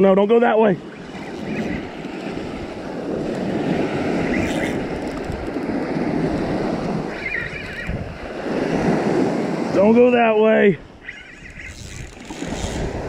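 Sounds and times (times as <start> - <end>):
surf washing up the beach: 0.5 - 11.0, 12.4 - 13.0
wind buffeting the microphone: 0.8 - 13.0.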